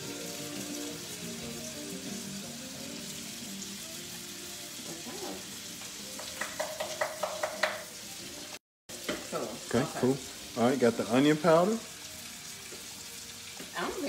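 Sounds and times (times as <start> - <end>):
vegetables sizzling in a skillet: 0.0 - 14.0.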